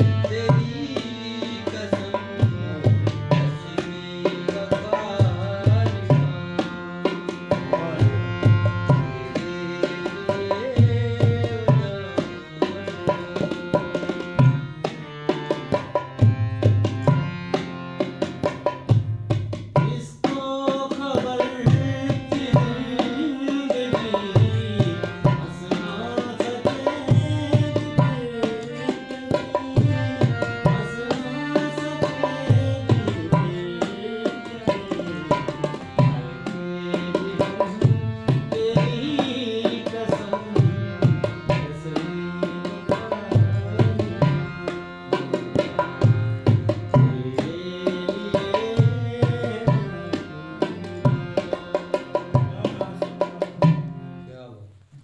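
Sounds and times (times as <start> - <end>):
barrel drum rhythm: 0.0 - 54.2
harmonium melody: 0.0 - 55.0.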